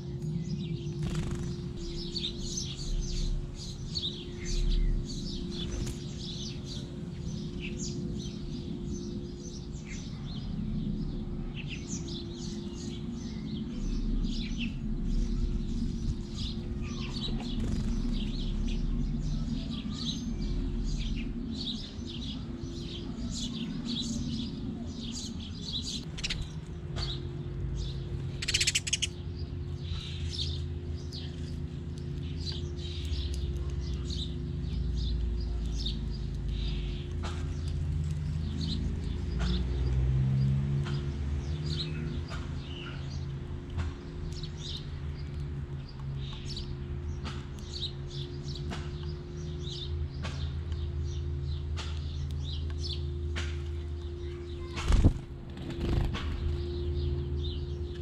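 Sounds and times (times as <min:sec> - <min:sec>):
small birds chirping: 0:00.0 - 0:58.0
steady low hum: 0:00.0 - 0:58.0.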